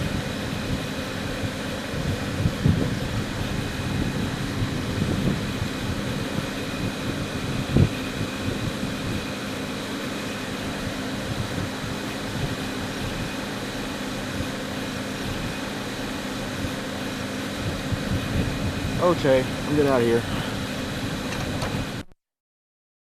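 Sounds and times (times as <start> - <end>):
vehicle idling with fan rushing: 0.0 - 22.1.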